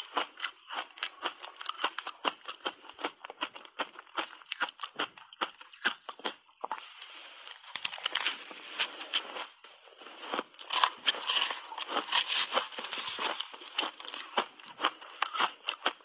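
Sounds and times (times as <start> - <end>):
ice crunching between teeth: 0.0 - 16.0.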